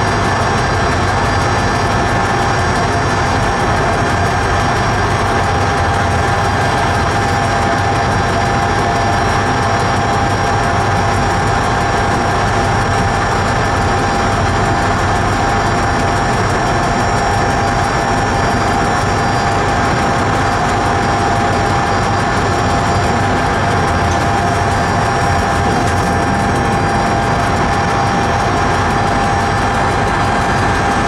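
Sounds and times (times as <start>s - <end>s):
constant whine: 0.0s - 31.0s
train wheels rumbling on rail: 0.0s - 31.0s.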